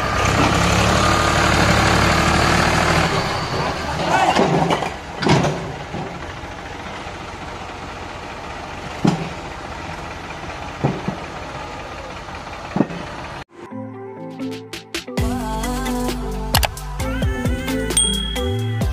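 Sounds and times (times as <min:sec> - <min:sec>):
tractor engines idling: 0:00.0 - 0:13.5, 0:15.4 - 0:18.9.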